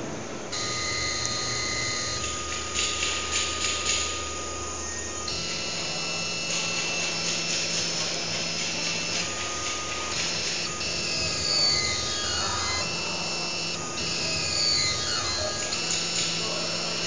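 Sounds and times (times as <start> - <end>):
drive motors whining: 0.0 - 17.0.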